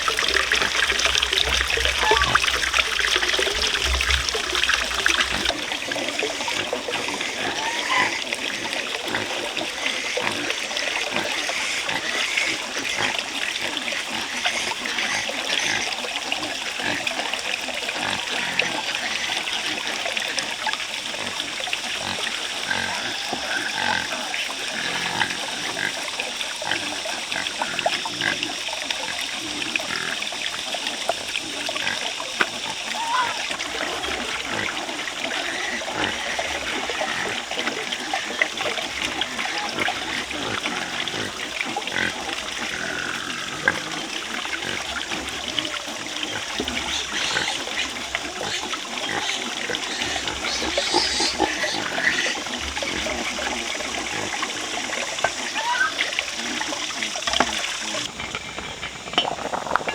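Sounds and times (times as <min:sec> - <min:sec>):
pigs grunting and squealing: 0:00.0 - 0:30.4, 0:31.4 - 0:59.9
water sloshing and trickling: 0:00.0 - 0:59.9.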